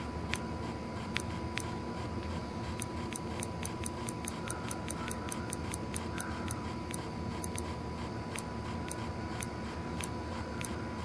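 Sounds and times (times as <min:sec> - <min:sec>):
low hum: 0:00.0 - 0:11.0
click wheel ticking: 0:00.3 - 0:00.5, 0:01.1 - 0:07.7, 0:08.3 - 0:10.8.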